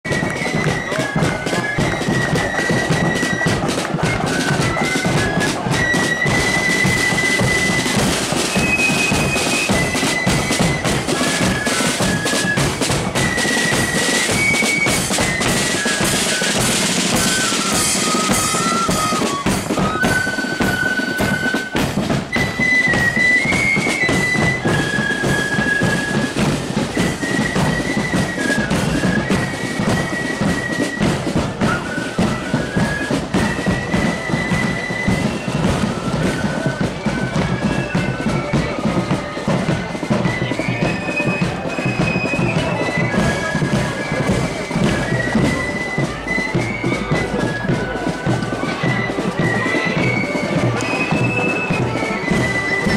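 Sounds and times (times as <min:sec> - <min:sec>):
flutes playing in unison: 0:00.0 - 0:52.9.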